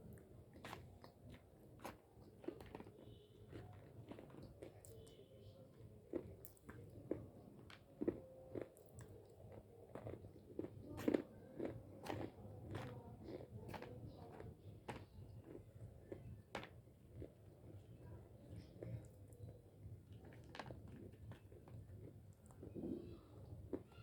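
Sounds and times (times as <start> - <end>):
dry crunchy chewing of clay: 0.0 - 24.0.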